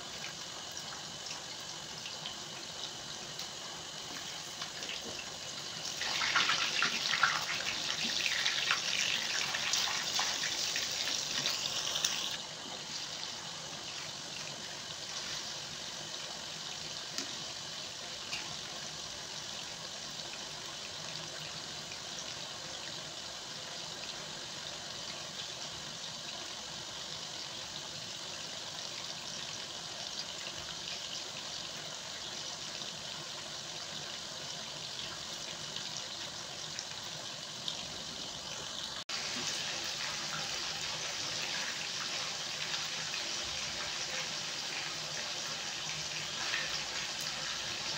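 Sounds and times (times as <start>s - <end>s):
fish sizzling in a pan: 0.0s - 22.6s, 23.2s - 47.9s.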